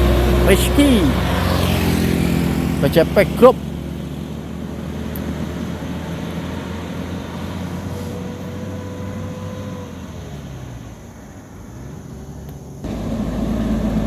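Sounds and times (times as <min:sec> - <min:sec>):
heavy vehicle engine running: 0:00.0 - 0:14.0
road noise: 0:00.0 - 0:14.0.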